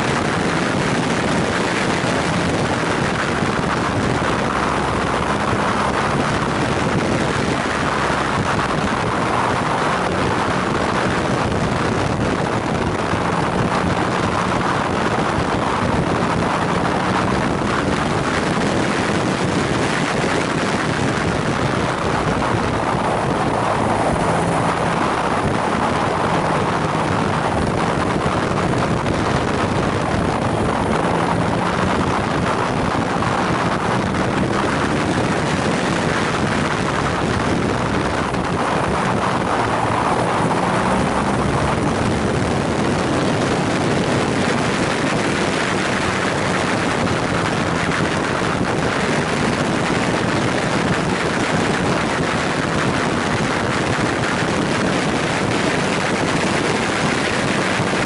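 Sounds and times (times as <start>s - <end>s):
motorcycle engine: 0.0s - 58.0s
wind rush over microphone: 0.0s - 58.0s.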